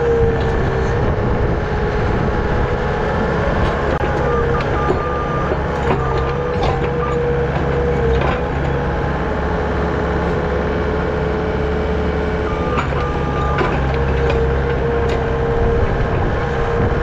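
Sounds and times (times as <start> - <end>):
held whining tone: 0.0 - 17.0.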